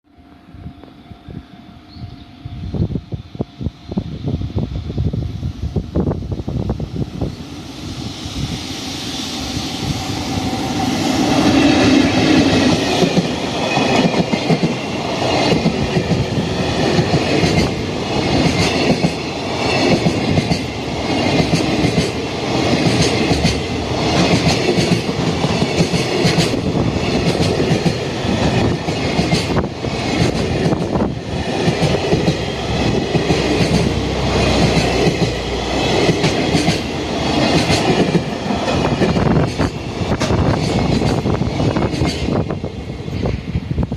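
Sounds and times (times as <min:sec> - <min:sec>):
freight train rumbling by: 0:00.0 - 0:43.9.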